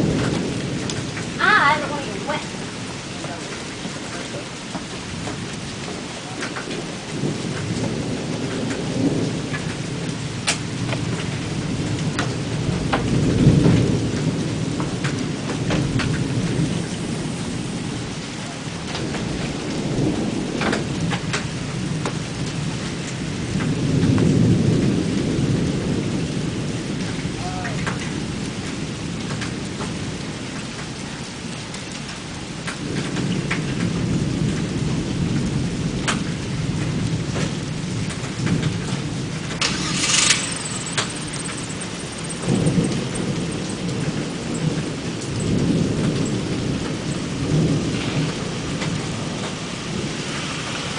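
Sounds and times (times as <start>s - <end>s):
thunder rumbling: 0.0s - 31.0s, 32.6s - 50.9s
heavy rain: 0.0s - 50.9s.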